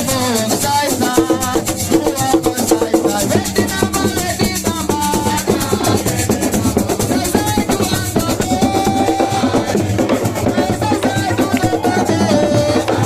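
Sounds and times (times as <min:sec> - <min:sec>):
shaker rattling: 0:00.0 - 0:12.0
fast drumming: 0:00.0 - 0:13.0.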